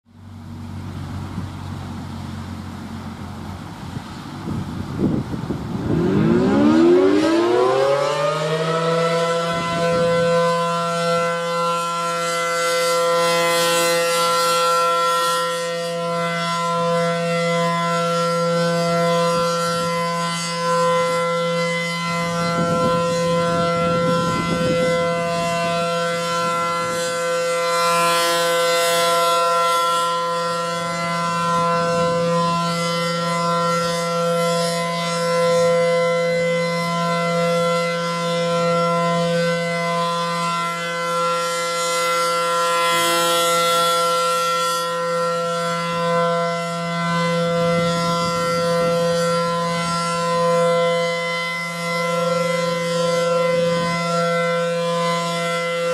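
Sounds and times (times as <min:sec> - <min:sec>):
warning siren chord: 0:00.1 - 0:55.9.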